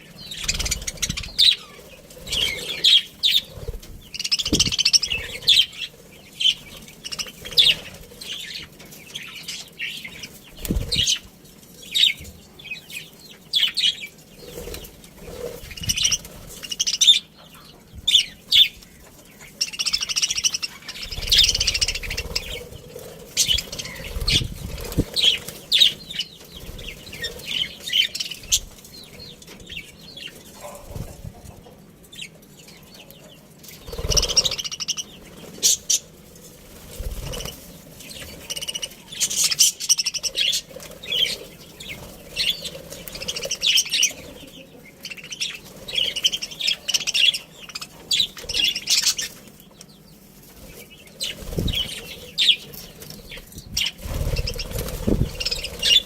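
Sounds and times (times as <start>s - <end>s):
wings fluttering: 0.0s - 17.3s, 18.0s - 31.7s, 33.6s - 56.0s
budgerigars chirping: 0.0s - 36.2s, 37.2s - 56.0s.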